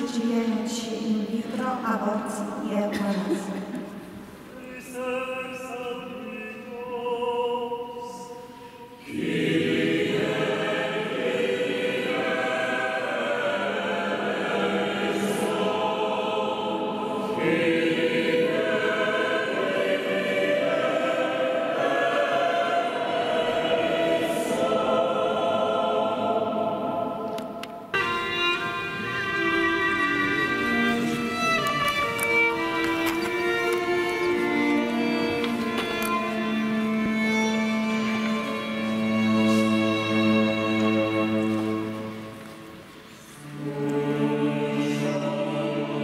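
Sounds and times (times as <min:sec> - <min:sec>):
choir singing: 0:03.6 - 0:46.0.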